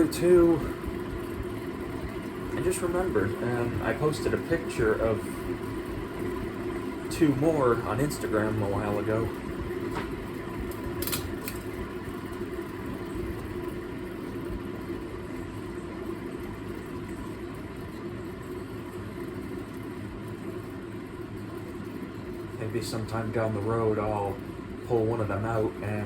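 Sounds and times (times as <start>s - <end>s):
ceiling fan humming and whirring: 0.0s - 26.0s.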